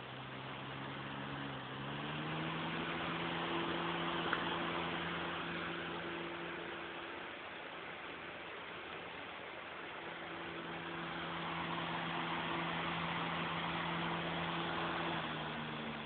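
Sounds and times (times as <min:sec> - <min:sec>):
electric fan running: 0:00.0 - 0:07.6, 0:09.8 - 0:16.0.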